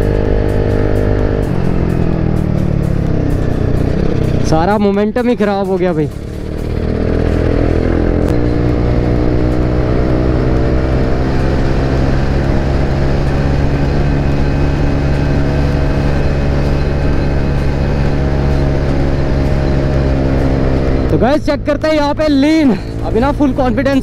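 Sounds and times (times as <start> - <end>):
scooter engine accelerating hard: 0.0 - 4.6, 6.1 - 24.0.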